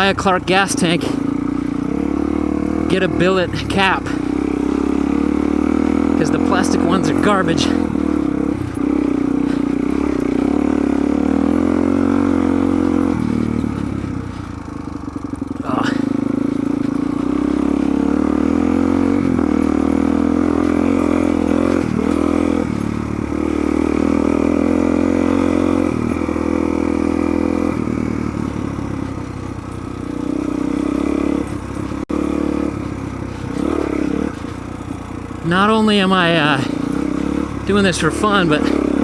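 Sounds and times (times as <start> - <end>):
motorcycle engine under load: 0.0 - 39.0.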